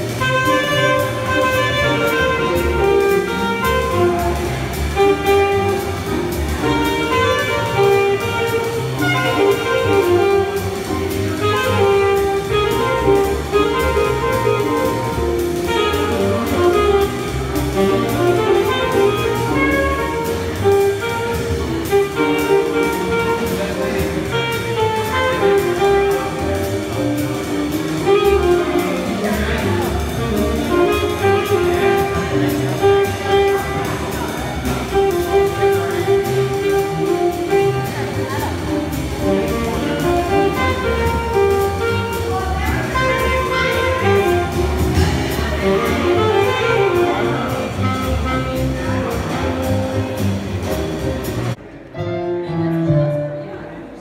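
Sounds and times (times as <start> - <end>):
saxophone: 0.0 - 51.6
drum kit: 0.0 - 51.9
piano: 0.0 - 54.0
upright double bass: 0.0 - 54.0.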